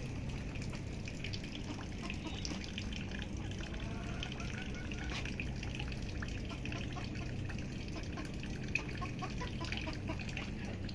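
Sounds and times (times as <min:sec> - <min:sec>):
water dripping and trickling: 0:00.0 - 0:10.9.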